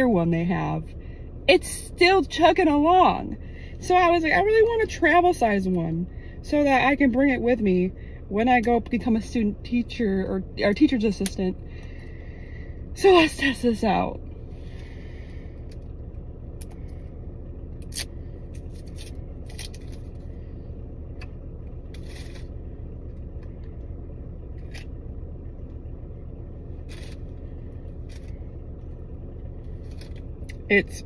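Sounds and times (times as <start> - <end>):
car interior hum: 0.0 - 31.0.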